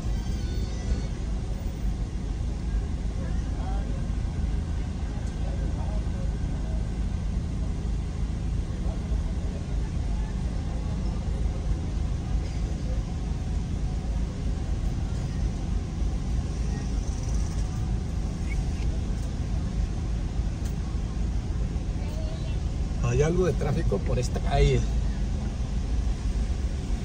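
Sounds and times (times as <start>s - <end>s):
car cabin low rumble: 0.0s - 27.0s
faint outside traffic: 0.0s - 27.0s.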